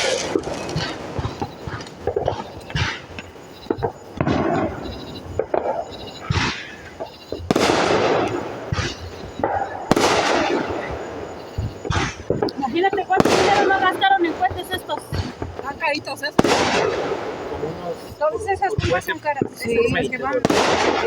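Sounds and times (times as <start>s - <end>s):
fireworks popping: 0.0s - 21.0s
loud fireworks bangs: 0.0s - 21.0s.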